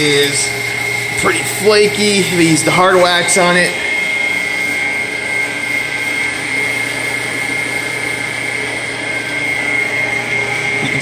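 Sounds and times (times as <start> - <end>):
electric fans humming: 0.0 - 11.0.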